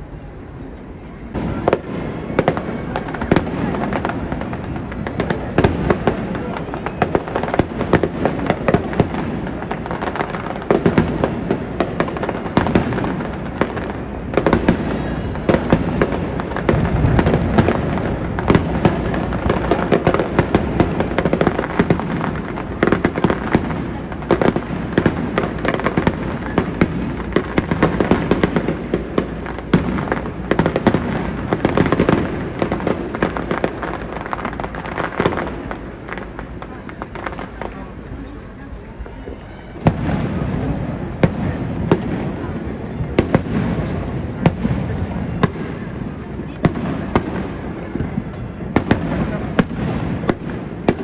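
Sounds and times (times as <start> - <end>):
fireworks cracking: 1.3 - 51.0.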